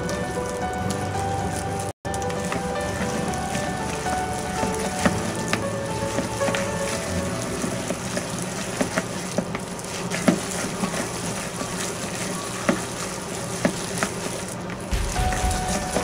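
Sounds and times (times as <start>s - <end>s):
wet squelching of mixing by hand: 0.0s - 16.0s.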